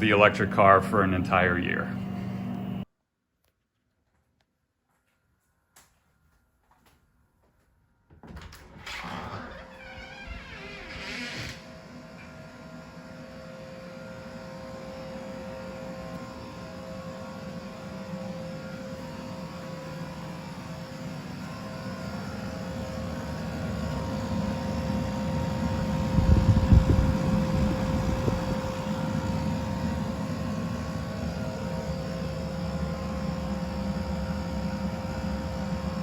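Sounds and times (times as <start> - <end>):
heat pump compressor and fan drone: 0.0 - 2.9, 8.8 - 36.0.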